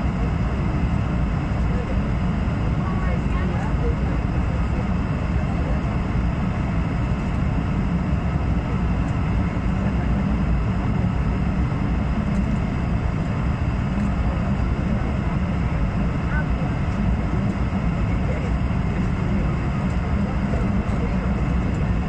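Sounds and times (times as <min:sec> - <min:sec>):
airliner cabin engine drone: 0:00.0 - 0:22.0.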